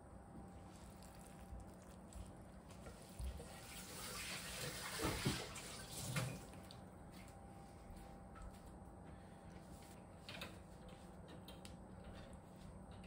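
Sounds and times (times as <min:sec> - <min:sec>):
soft wet squishing of food: 0:00.0 - 0:13.0.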